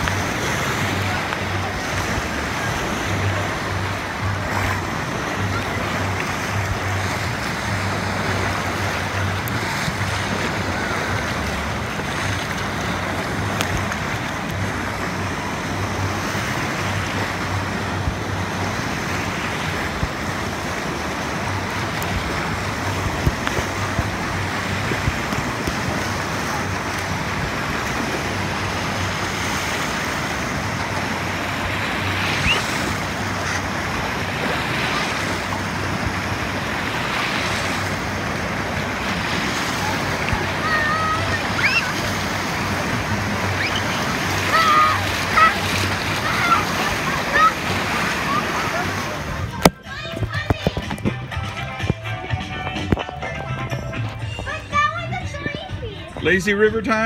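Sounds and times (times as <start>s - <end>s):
water washing up a beach: 0.0s - 51.7s.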